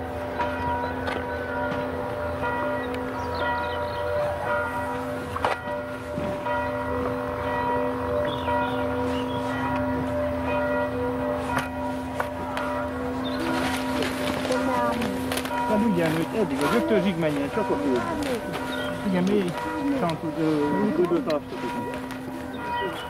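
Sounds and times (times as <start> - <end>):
church bell ringing: 0.0 - 23.0.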